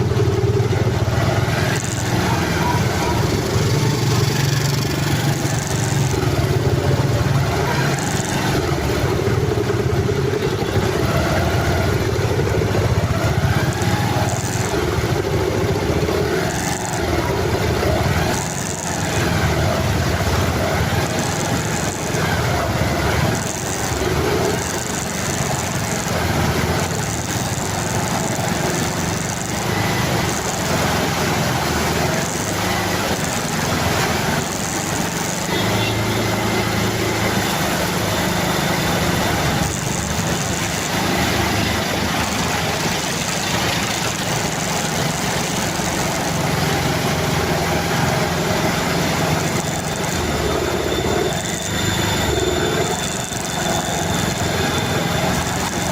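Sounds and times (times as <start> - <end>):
constant rushing noise: 0.0 - 55.9
vehicle engine running: 0.0 - 55.9.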